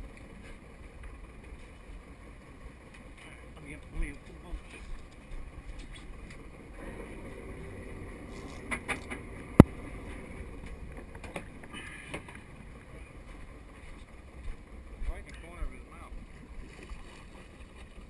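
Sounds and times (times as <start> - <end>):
water around a boat: 0.0 - 18.0
wind: 0.0 - 18.0.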